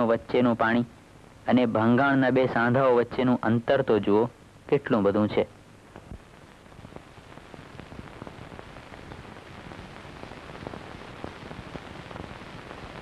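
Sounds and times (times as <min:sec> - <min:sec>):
film soundtrack surface noise: 0:00.0 - 0:13.0.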